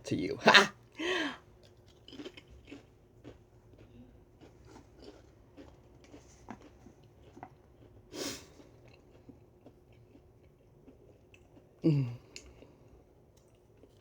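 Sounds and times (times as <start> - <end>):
person chewing crisps: 1.0 - 14.0.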